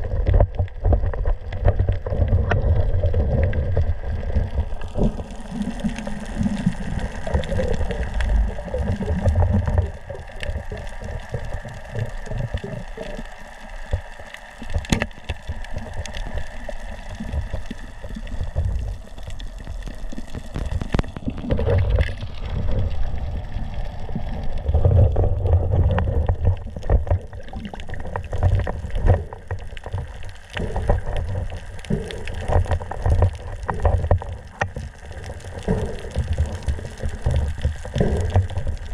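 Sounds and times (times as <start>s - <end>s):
muffled underwater rumbling and gurgling: 0.0s - 38.9s.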